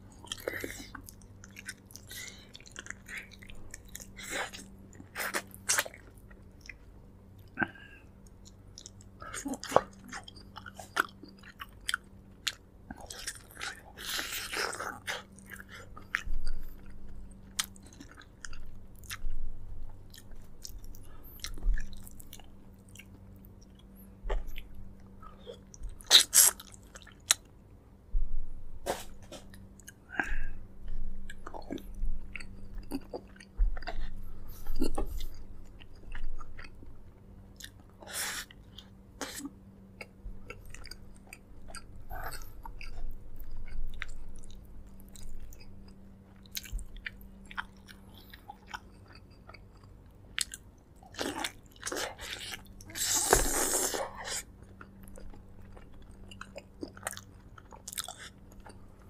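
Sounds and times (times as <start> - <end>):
person chewing food: 0.0 - 27.5, 28.9 - 59.0.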